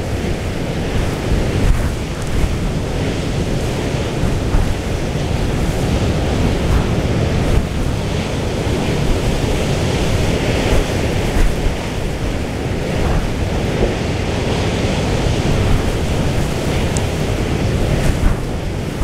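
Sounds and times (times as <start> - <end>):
rough sea rushing: 0.0 - 19.0
wind buffeting microphone: 0.0 - 19.0.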